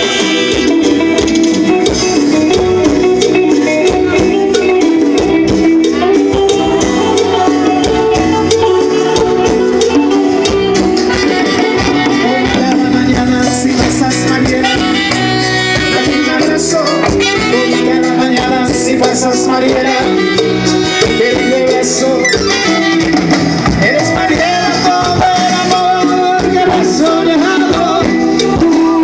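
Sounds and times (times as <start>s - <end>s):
live latin dance band: 0.0s - 29.0s.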